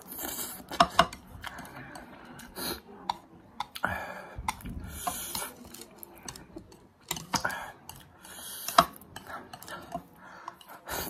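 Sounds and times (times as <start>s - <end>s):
wet chewing: 0.0s - 10.9s
chopsticks clicking on plate: 0.7s - 3.8s, 4.4s - 10.8s.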